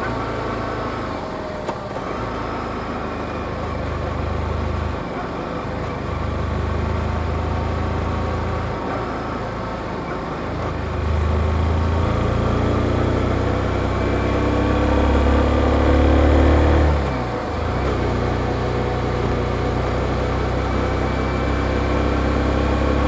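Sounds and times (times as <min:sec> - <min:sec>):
motorcycle engine: 0:00.0 - 0:23.0.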